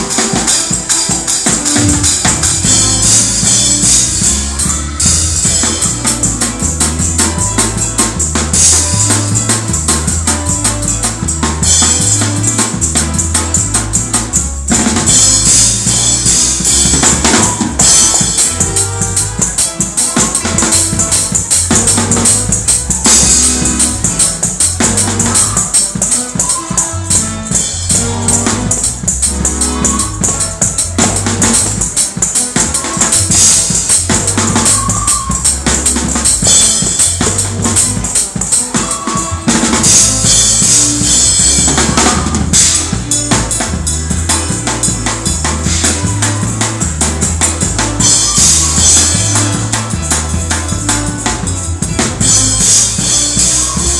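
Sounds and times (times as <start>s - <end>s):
drum kit played fast: 0.0s - 53.9s
bass line: 1.5s - 53.9s.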